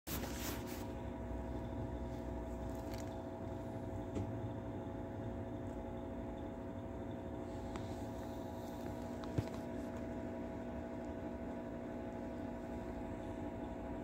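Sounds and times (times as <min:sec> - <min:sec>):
steady tonal hum: 0:00.1 - 0:14.0.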